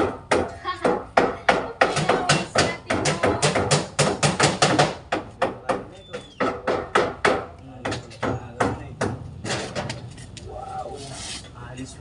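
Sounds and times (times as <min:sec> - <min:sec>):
sharp knocking strikes: 0:00.0 - 0:10.0.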